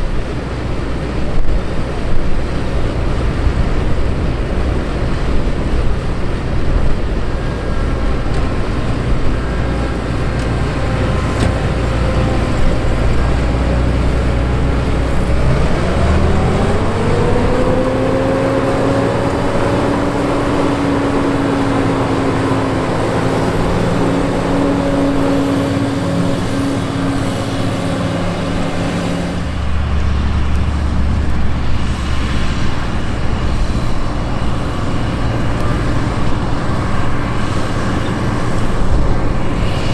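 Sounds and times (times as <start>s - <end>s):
combine harvester drone: 0.0s - 39.9s
mechanical whine: 1.1s - 39.9s.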